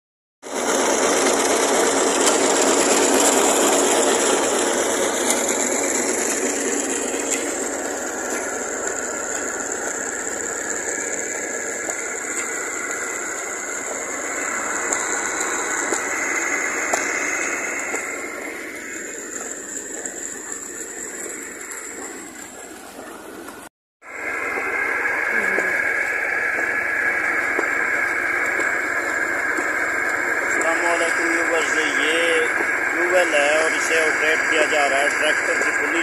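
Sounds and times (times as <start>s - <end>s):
tractor diesel engine running: 0.4s - 36.0s.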